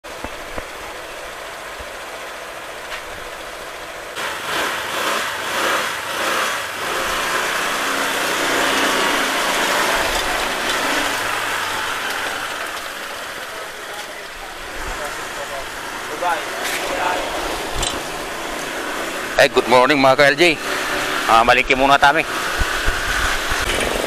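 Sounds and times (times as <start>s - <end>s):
motor scooter engine: 0.0s - 24.0s
rushing noise: 0.0s - 24.0s.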